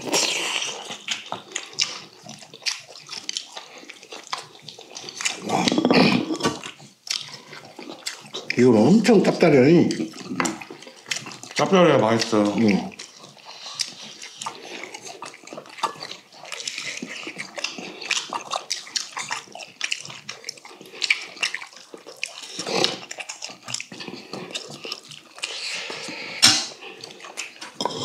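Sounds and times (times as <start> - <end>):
wet chewing and slurping: 0.0 - 28.0.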